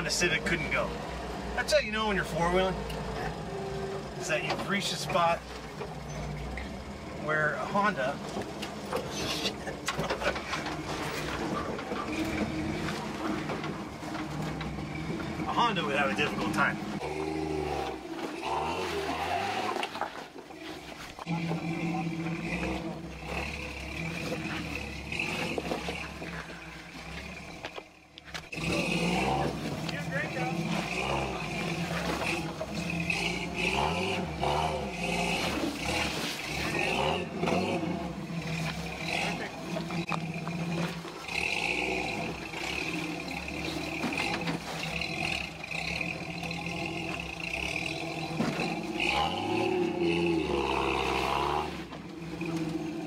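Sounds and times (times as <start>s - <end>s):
truck engine at low revs: 0.0s - 53.0s.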